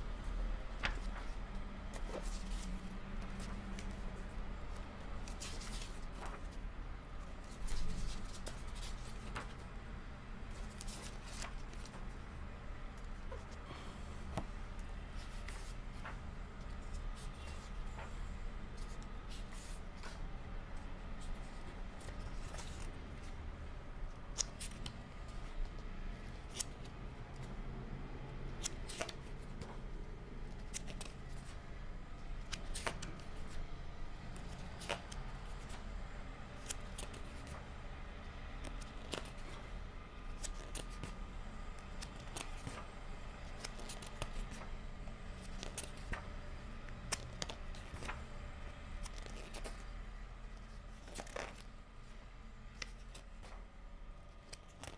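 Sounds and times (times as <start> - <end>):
low steady hum: 0.0 - 54.9
book pages turning: 0.7 - 6.6, 7.2 - 9.7, 10.5 - 12.2, 12.9 - 23.4, 24.1 - 27.6, 28.4 - 31.6, 32.2 - 35.9, 36.5 - 37.8, 38.6 - 53.7, 54.3 - 54.9.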